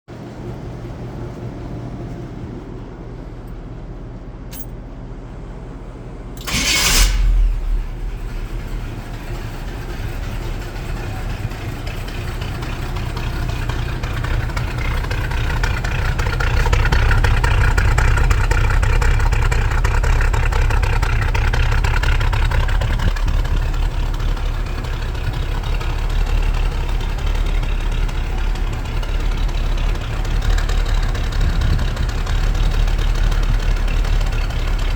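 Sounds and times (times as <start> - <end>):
engine idling: 3.0 - 34.9
engine cranking and starting: 6.4 - 34.9.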